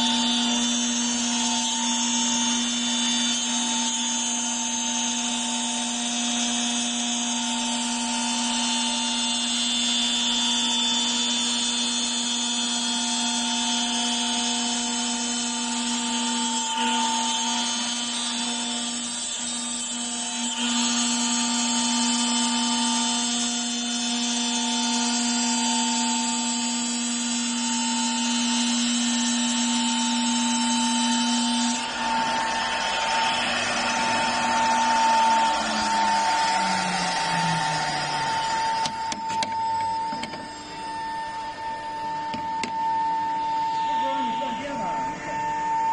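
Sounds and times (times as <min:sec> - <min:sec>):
router bit cutting wood: 0:00.0 - 0:45.9
router spindle whining: 0:00.0 - 0:45.9.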